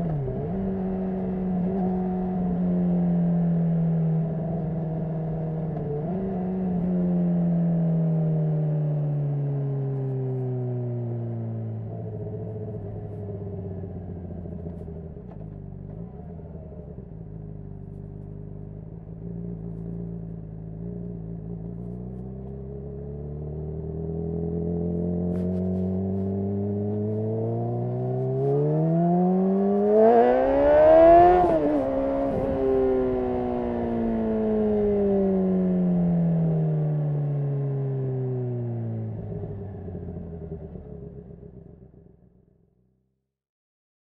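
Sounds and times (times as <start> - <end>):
motorcycle engine revving: 0.0 - 42.4.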